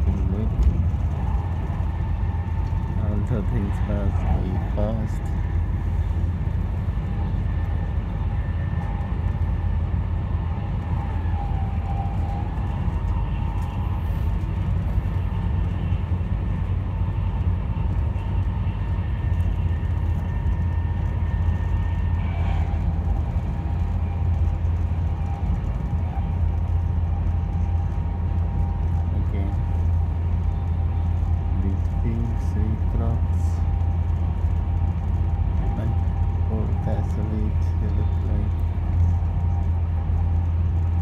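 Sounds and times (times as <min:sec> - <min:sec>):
faint high whine: 0:00.0 - 0:41.0
train wheels rumbling on rails: 0:00.0 - 0:41.0.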